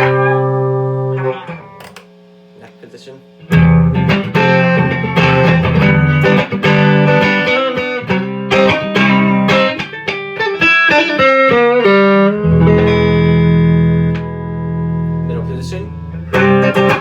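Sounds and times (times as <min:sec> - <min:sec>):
clean electric guitar: 0:00.0 - 0:02.2, 0:03.4 - 0:17.0.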